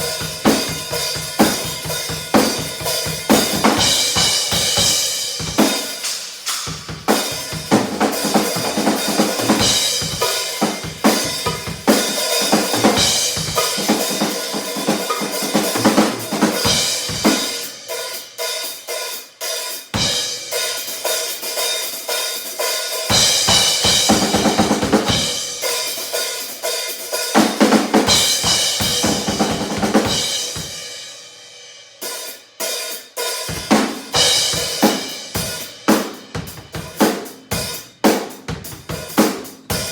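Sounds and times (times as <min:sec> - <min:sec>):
acoustic drum kit playing: 0:00.0 - 0:31.2, 0:32.0 - 0:39.9.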